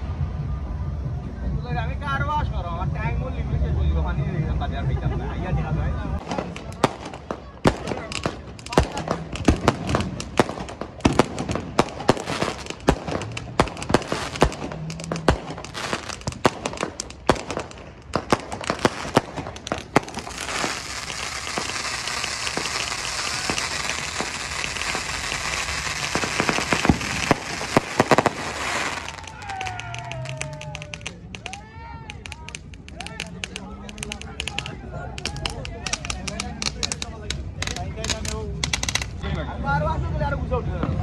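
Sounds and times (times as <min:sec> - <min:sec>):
fireworks crackling: 0:06.0 - 0:39.2
fireworks popping and banging: 0:06.2 - 0:39.2.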